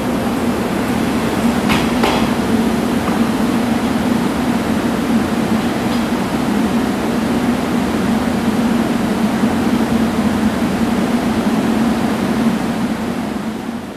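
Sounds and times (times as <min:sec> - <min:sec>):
electric train running: 0:00.0 - 0:13.4.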